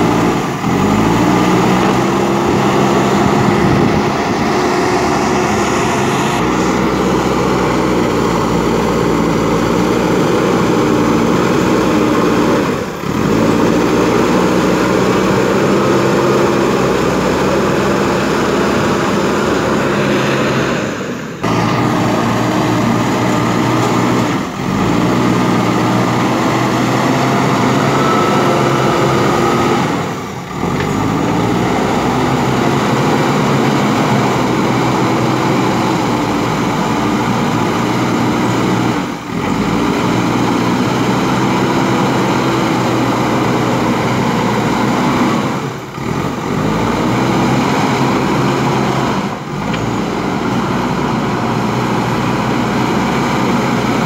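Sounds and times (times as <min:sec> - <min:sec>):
diesel engine running hard: 0:00.0 - 0:54.0.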